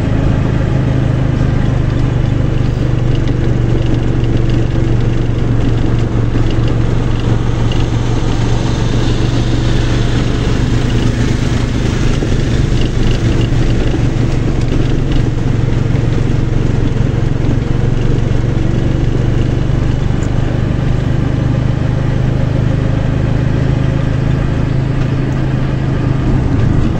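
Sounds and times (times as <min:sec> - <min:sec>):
road and wind noise: 0:00.0 - 0:26.9
vehicle engine cruising: 0:00.0 - 0:26.9.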